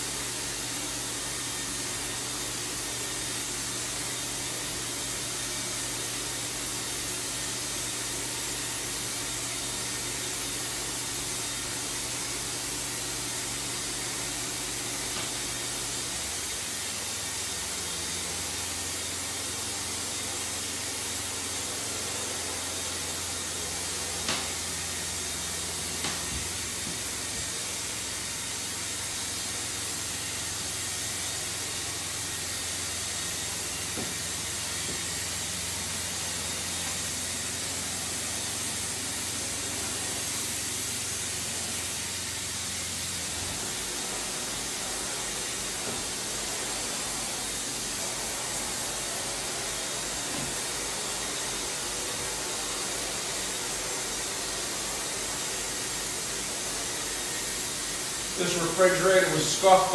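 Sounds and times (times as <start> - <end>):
spray gun hissing: 0.0 - 59.9.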